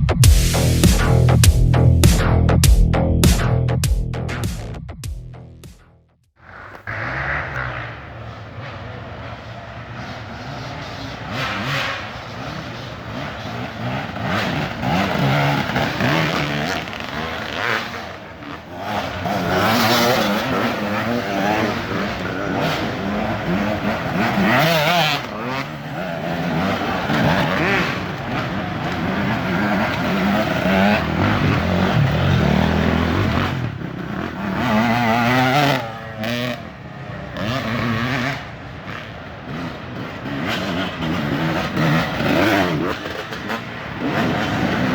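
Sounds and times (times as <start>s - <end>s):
dirt bike engines revving: 0.0s - 3.7s, 6.4s - 44.9s.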